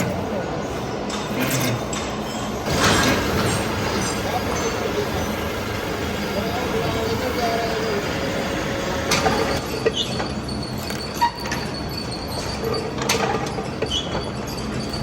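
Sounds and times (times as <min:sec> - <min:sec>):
workshop background din: 0:00.0 - 0:15.0.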